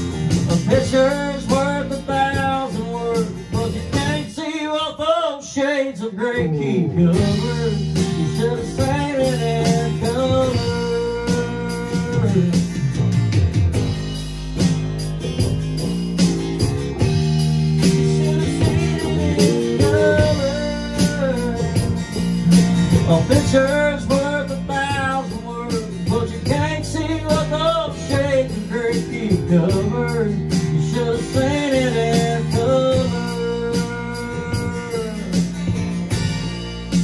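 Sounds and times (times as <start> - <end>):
man singing: 0.0 - 13.2, 17.6 - 35.9
country band playing: 0.0 - 37.0.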